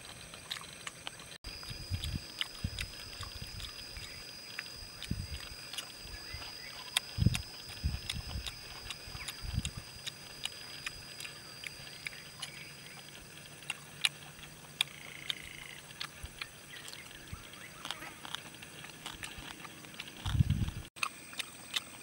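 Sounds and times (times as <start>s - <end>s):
chewing clicks and smacks: 0.0s - 22.0s
faint high insect drone: 0.0s - 22.0s.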